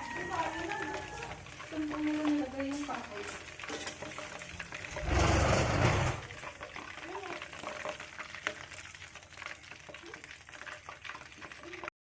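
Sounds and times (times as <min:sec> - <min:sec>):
chicken sizzling in a pan: 0:00.0 - 0:11.9
stirring in a pan: 0:00.0 - 0:11.9.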